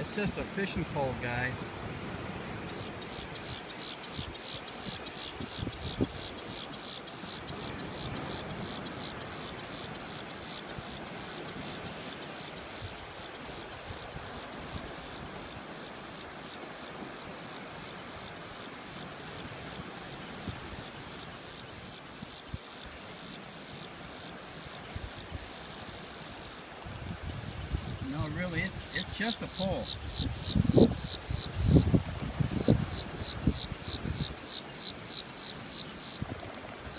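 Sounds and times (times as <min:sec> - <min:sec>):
insect chirping: 0:02.6 - 0:36.9.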